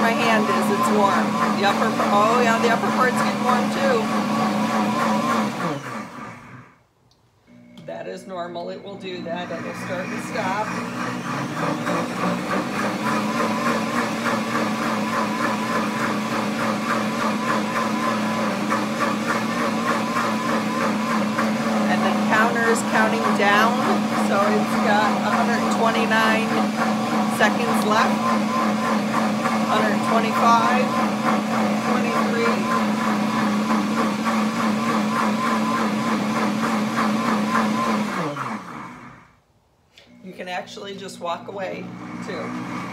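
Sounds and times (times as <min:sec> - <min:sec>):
blender motor humming and whirring: 0:00.0 - 0:42.9.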